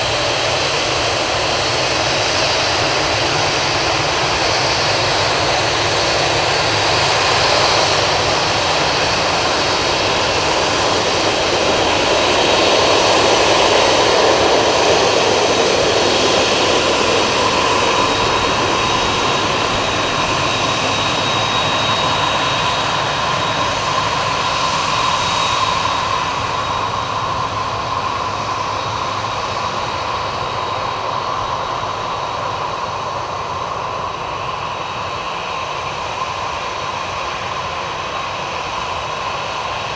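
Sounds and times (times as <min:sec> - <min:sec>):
jet engines roaring with high whine: 0:00.0 - 0:39.9.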